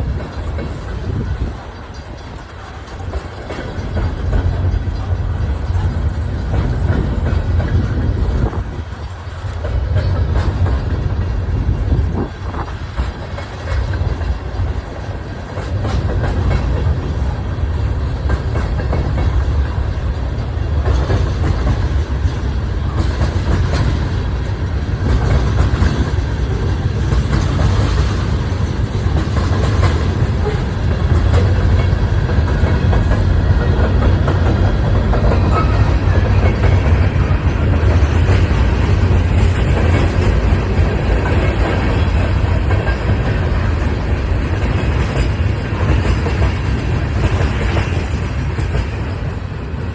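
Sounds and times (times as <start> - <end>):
freight train rumbling: 0.0 - 49.9
wheels clicking over rail joints: 0.0 - 49.9.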